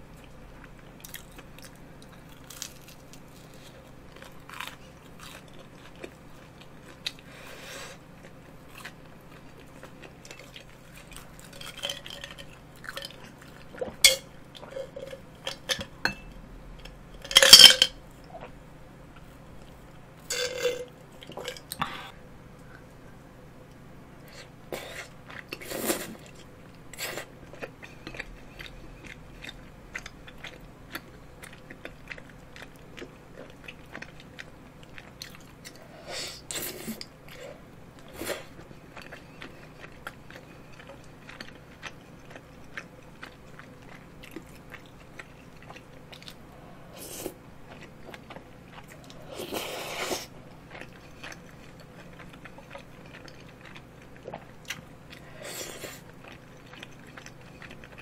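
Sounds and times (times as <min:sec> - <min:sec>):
chewing soft food: 0:00.1 - 0:15.7, 0:23.6 - 0:58.0.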